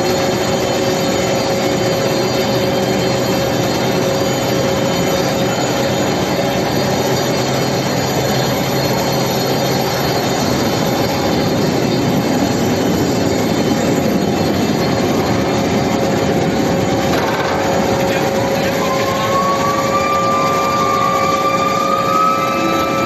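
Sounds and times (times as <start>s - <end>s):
industrial machinery hum: 0.0s - 23.0s
lower machinery hum: 0.0s - 23.0s.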